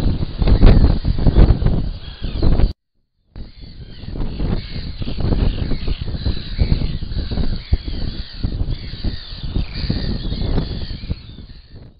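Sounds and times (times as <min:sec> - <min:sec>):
seabirds calling harshly: 0:00.0 - 0:02.7, 0:03.4 - 0:11.9
wind buffeting microphone: 0:00.0 - 0:11.9.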